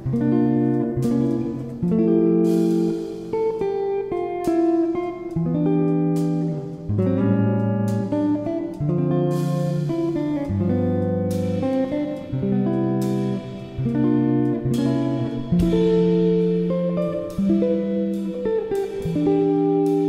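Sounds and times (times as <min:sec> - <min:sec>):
guitar playing plucked chords: 0:00.0 - 0:20.0.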